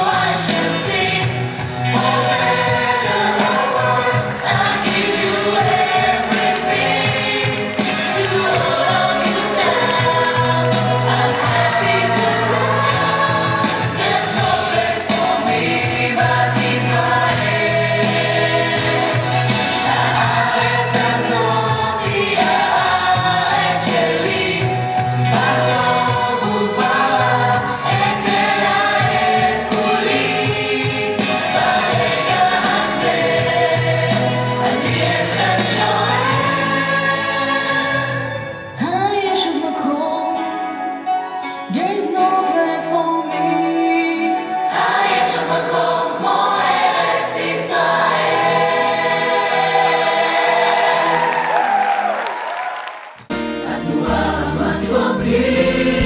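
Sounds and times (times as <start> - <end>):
youth group singing: 0.0 - 38.3, 44.6 - 51.7, 53.6 - 56.0.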